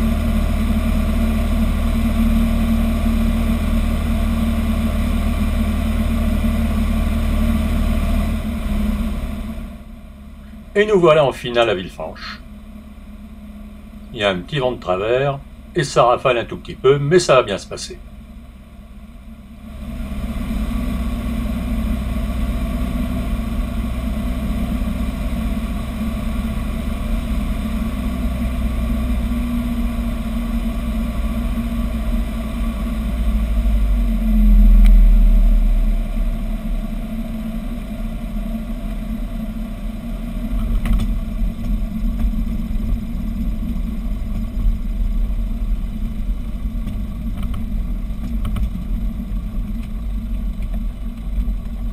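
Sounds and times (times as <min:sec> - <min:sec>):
aircraft rolling on runway: 0:00.0 - 0:51.9
light aircraft engine drone: 0:00.0 - 0:51.9.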